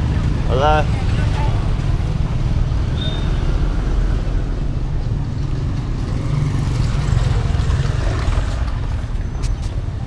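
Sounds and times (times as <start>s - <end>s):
traffic on cobblestones: 0.0s - 10.0s
motorcycle passing: 1.0s - 9.2s.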